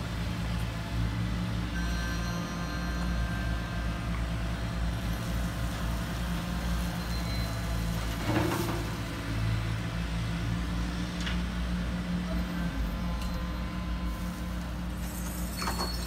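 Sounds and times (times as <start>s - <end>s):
model excavator humming: 0.0s - 16.0s.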